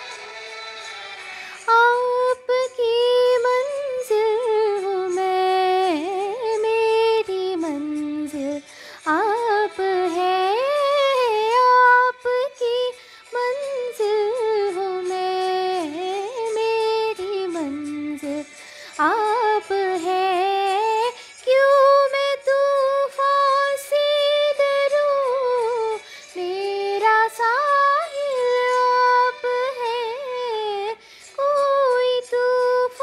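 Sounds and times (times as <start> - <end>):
girl singing into a microphone: 1.6 - 33.0.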